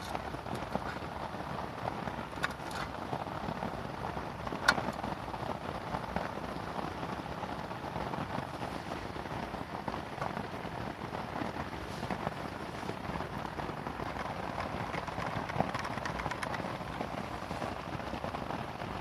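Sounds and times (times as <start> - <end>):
rain on a canvas tent: 0.0 - 19.0.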